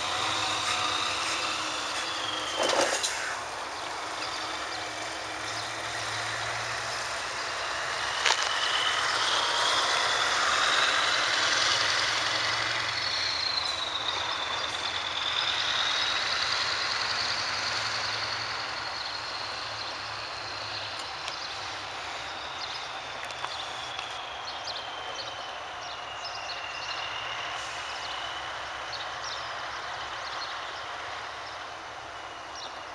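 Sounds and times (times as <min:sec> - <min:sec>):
lorry driving away: 0:00.0 - 0:32.9.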